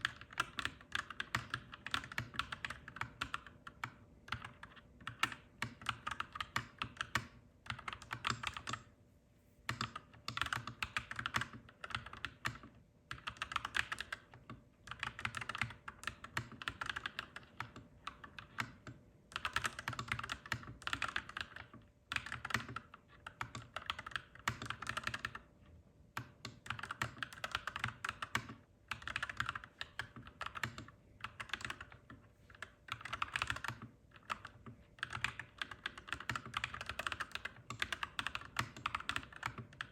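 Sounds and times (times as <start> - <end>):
mechanical keyboard typing: 0.0 - 8.9, 9.7 - 25.5, 26.1 - 39.9.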